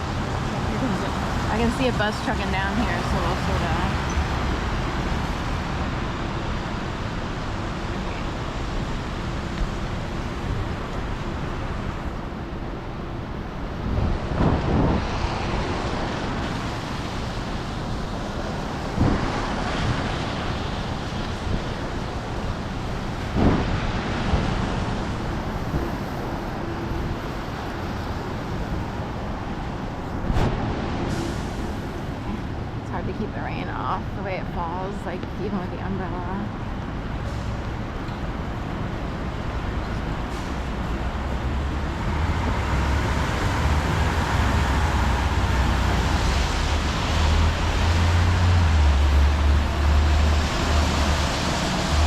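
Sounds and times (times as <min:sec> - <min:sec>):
traffic on a wet street: 0:00.0 - 0:52.0.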